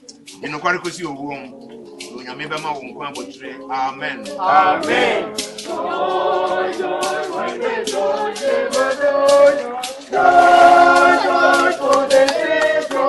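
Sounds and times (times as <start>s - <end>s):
group singing a hymn: 0.0s - 13.0s
sharp percussive hits: 0.0s - 13.0s.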